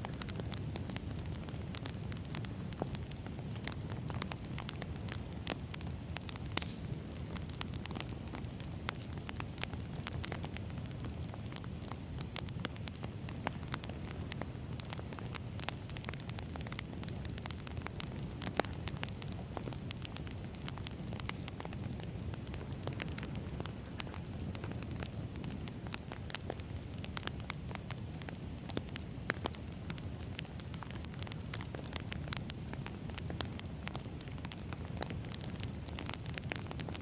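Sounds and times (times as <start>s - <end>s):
firewood crackling: 0.0s - 37.0s.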